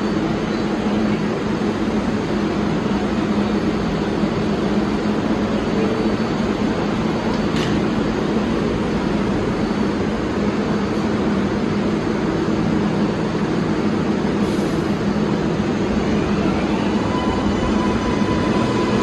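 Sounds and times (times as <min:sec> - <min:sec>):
subway train running: 0:00.0 - 0:19.0.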